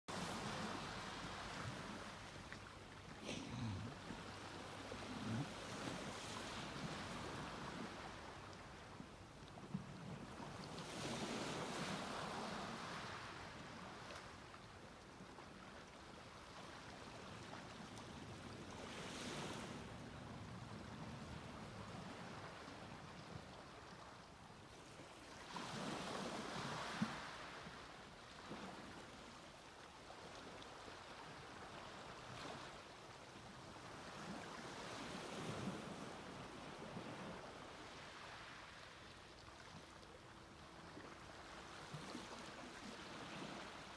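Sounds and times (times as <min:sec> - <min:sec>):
small waves breaking on beach: 0:00.1 - 0:43.9.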